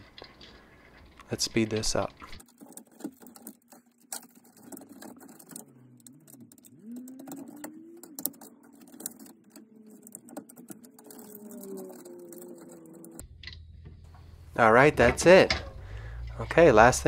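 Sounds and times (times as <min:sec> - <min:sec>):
cable connectors clicking and rattling: 0:00.0 - 0:13.7.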